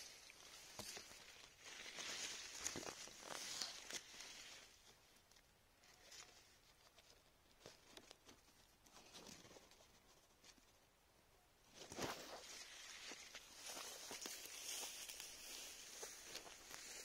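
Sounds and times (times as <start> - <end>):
leaves rustling: 0.0 - 10.8, 11.6 - 17.0
soft clicks and crackles: 0.0 - 10.8, 11.7 - 17.0.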